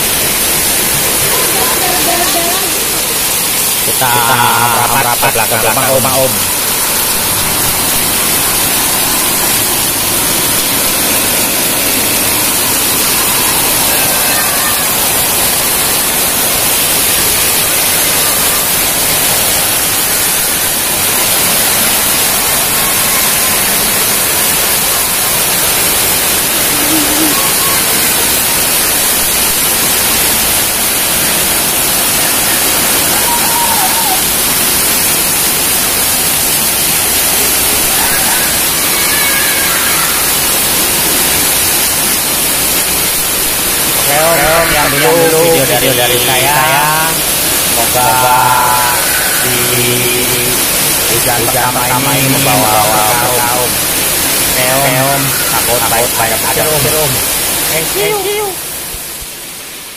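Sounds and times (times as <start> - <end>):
heavy rain on concrete: 0.0 - 59.9.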